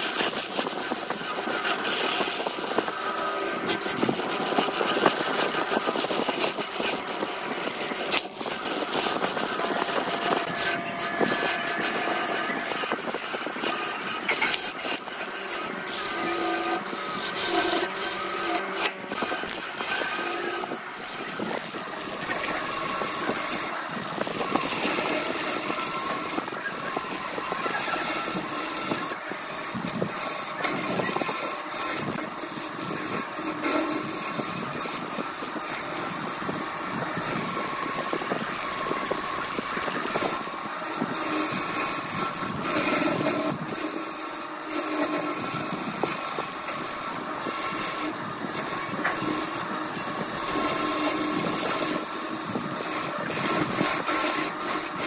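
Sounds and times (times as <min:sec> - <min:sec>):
lathe tool scraping wood: 0:00.0 - 0:55.0.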